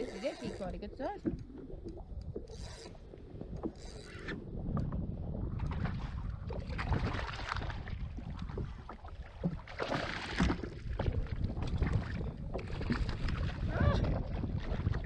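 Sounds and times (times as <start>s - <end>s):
water sloshing around kayak: 0.0s - 15.0s
wind rumble on microphone: 0.0s - 15.0s.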